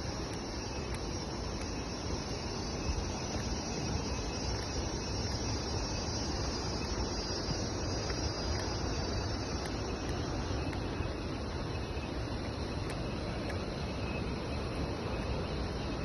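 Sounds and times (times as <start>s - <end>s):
insect chorus droning: 0.0s - 16.0s
rushing background noise: 0.0s - 16.0s.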